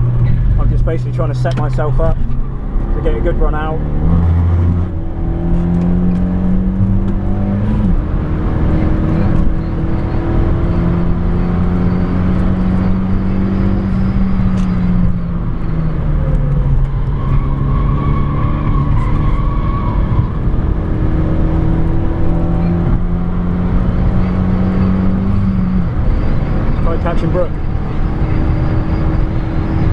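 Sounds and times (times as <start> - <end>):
car engine accelerating: 0.0 - 29.9.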